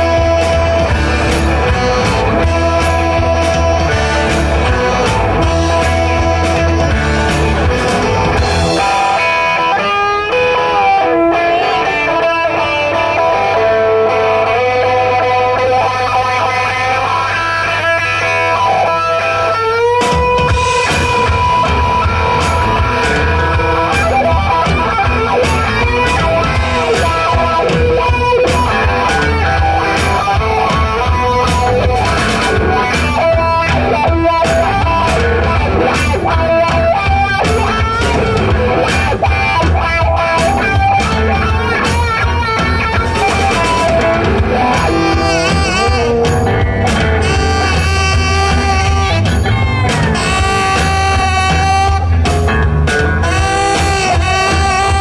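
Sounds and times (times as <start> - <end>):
drum kit beat: 0.0 - 13.7, 19.8 - 55.0
electric guitars: 0.0 - 55.0
upright bass: 0.0 - 55.0.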